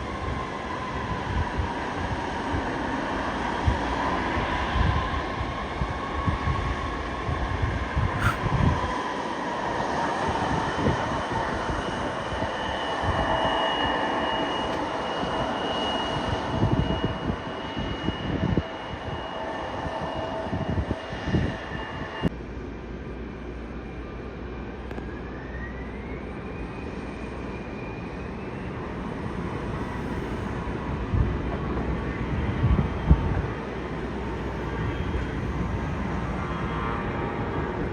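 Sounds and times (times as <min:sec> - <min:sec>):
wind buffeting microphone: 0:00.0 - 0:09.0, 0:10.1 - 0:22.3, 0:28.3 - 0:37.9
jet engines whining: 0:04.3 - 0:37.9.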